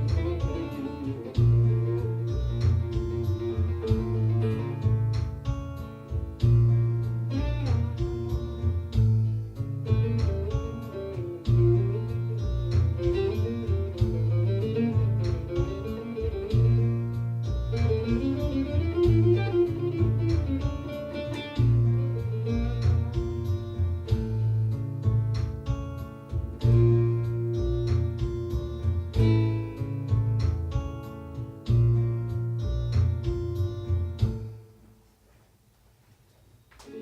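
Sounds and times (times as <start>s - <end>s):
plucked lute melody: 0.0s - 32.2s
low bass accompaniment: 0.0s - 34.8s.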